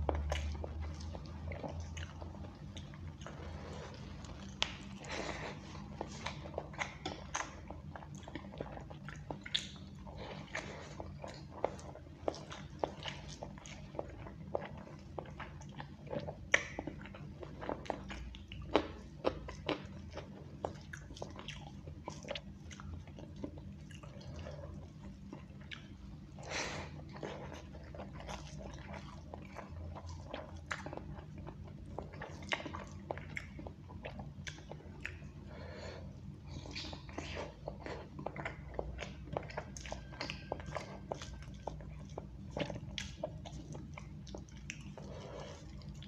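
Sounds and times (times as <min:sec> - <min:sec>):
man chewing: 0:00.0 - 0:46.0.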